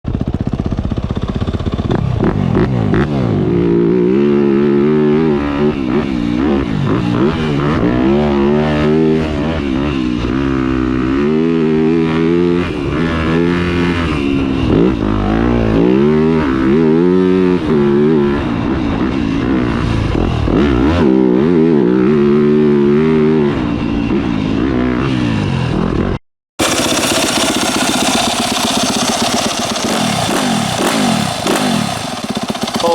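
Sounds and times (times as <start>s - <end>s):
motorcycle engine revving: 0.1s - 32.9s.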